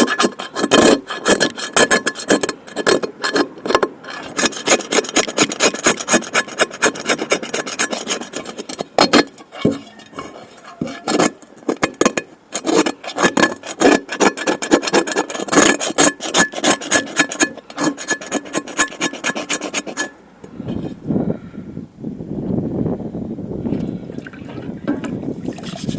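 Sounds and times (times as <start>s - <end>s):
scrubbing rust off cast iron: 0.0s - 21.0s, 24.9s - 25.9s.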